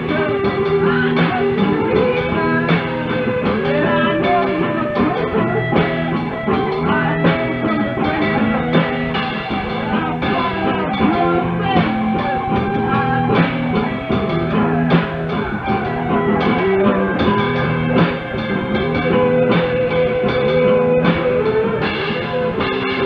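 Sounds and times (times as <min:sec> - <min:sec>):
droning bassline: 0:00.0 - 0:23.0
drum hits: 0:00.0 - 0:23.0
rock band playing: 0:00.0 - 0:23.0.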